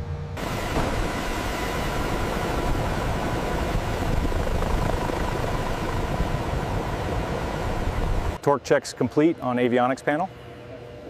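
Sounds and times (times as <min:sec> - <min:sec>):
faint steady whine: 0:00.0 - 0:11.0
helicopter engines and rotors: 0:00.0 - 0:11.0.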